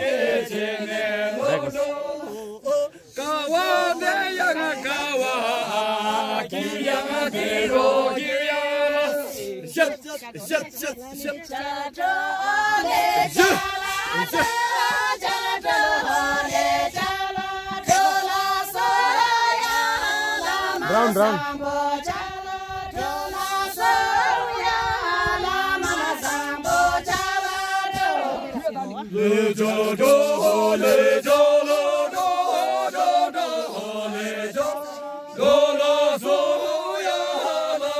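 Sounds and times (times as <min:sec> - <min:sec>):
women singing folk song: 0:00.0 - 0:37.9.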